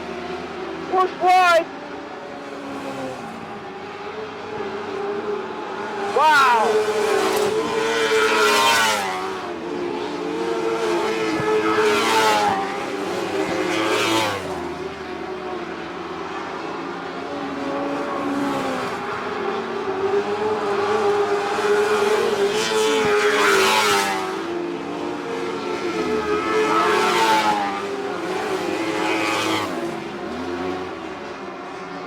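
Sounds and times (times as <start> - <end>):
racing car engines revving: 0.0 - 32.0.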